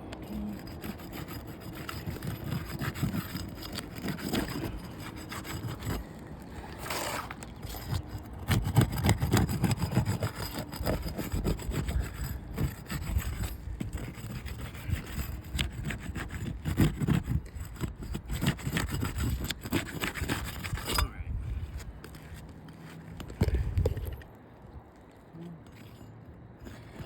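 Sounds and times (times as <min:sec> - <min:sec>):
tool scraping against shingles: 0:00.0 - 0:24.3, 0:25.6 - 0:27.0.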